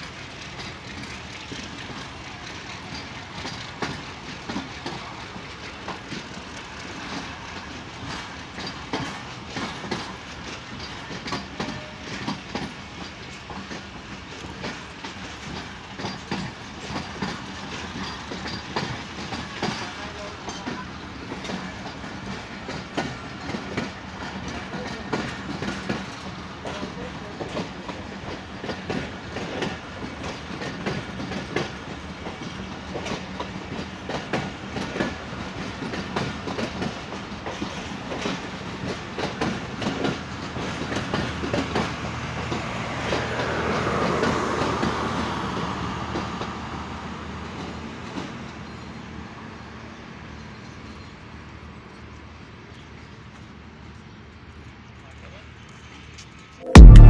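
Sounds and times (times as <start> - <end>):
train wheels clicking over rail joints: 0.0 - 46.6
train rumble: 0.0 - 48.9.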